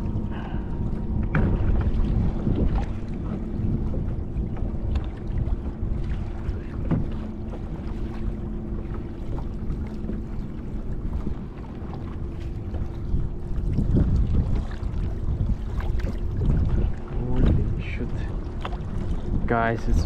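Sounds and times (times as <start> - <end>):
water sloshing against hull: 0.0 - 20.0
wind buffeting microphone: 0.0 - 20.0.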